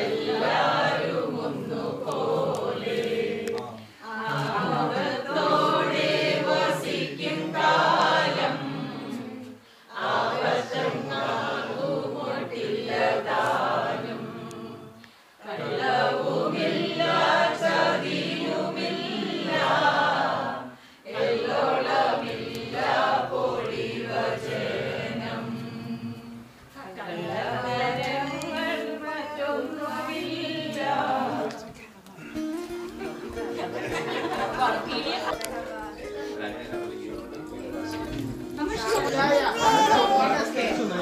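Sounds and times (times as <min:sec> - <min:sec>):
group of voices singing: 0:00.0 - 0:32.3, 0:33.3 - 0:36.6, 0:37.4 - 0:41.0.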